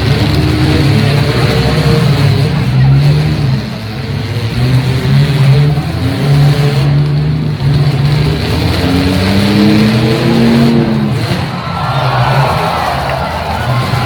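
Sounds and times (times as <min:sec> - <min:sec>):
car engine revving: 0:00.0 - 0:14.0
loud car engines running: 0:00.0 - 0:14.0.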